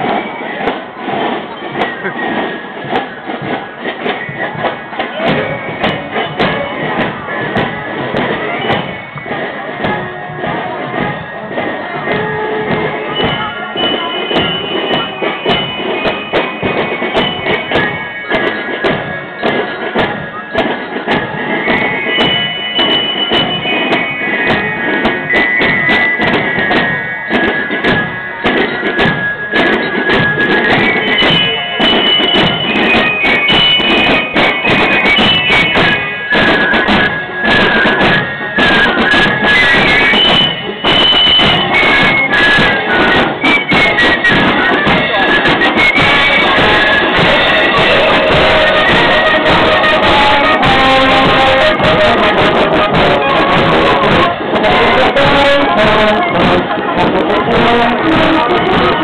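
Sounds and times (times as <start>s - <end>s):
snare and bass drum beats: 0.0s - 59.0s
shrill fife melody: 3.8s - 59.0s.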